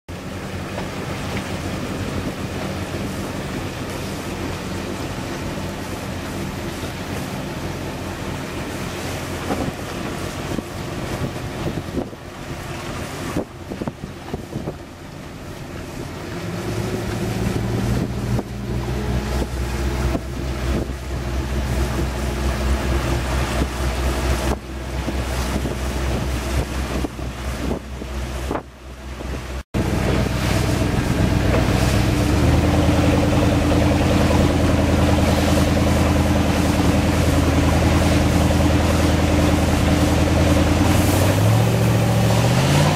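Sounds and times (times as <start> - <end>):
boat engine roaring: 0.1 - 42.9
rushing water: 0.1 - 42.9
wind on microphone: 1.3 - 42.9.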